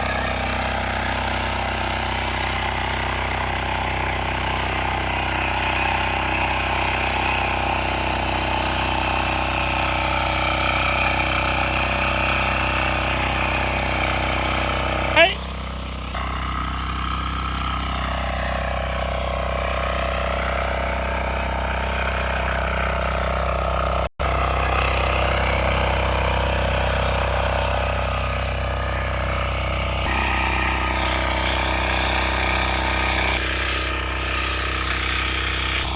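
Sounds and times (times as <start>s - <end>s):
ploughing machine engine running: 0.0s - 35.9s.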